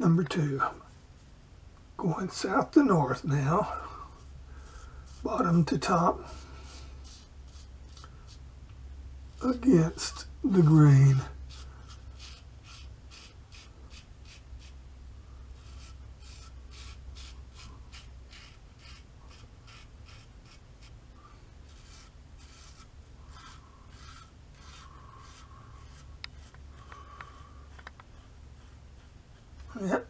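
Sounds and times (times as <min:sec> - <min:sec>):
razor scraping stubble: 0:03.4 - 0:08.4, 0:09.4 - 0:14.8, 0:15.6 - 0:21.0, 0:21.6 - 0:30.0.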